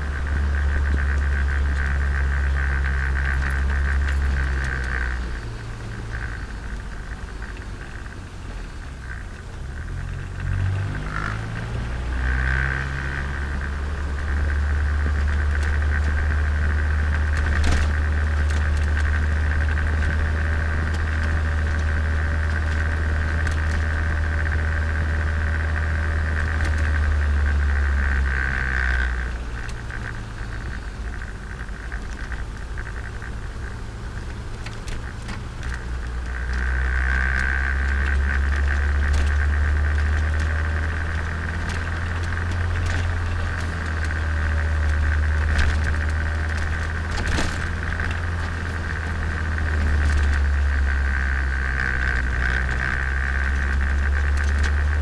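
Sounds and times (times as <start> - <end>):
car engine droning while driving: 0.0 - 55.0.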